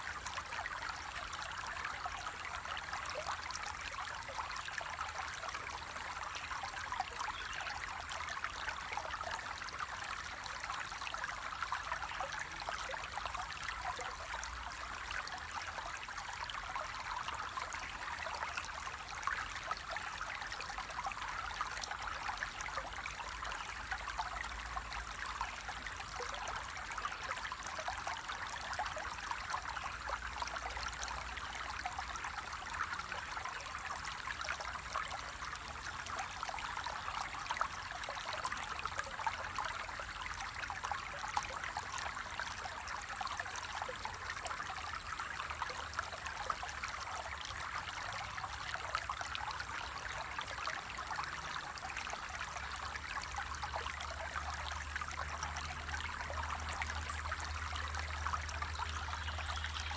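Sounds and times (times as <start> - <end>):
stream water babbling: 0.0 - 59.9.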